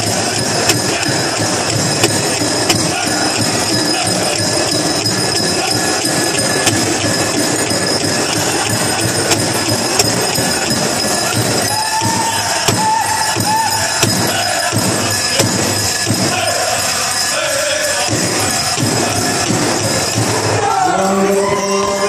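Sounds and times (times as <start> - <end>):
sharp drum strikes: 0.0 - 16.6, 18.1 - 20.8
drum song: 0.0 - 22.0
leg bells jingling: 0.0 - 22.0.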